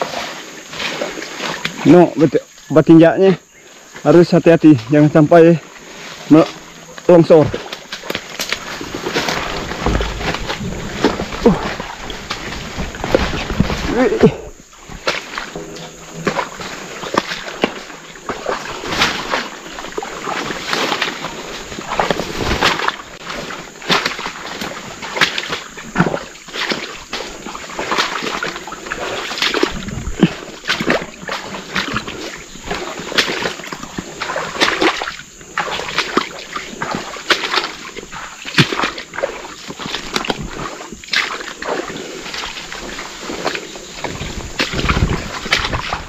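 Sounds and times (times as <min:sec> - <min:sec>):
boots squelching through mud: 0:00.0 - 0:02.4, 0:04.9 - 0:46.0.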